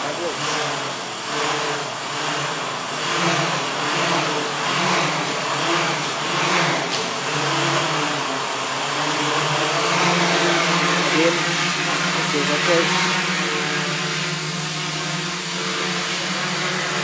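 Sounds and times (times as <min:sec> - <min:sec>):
drone propellers whirring: 0:00.0 - 0:17.0.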